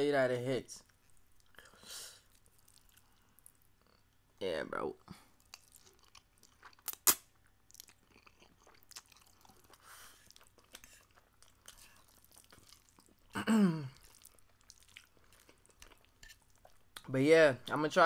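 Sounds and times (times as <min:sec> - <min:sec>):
wet chewing with mouth clicks: 0:00.8 - 0:04.2, 0:05.3 - 0:17.1.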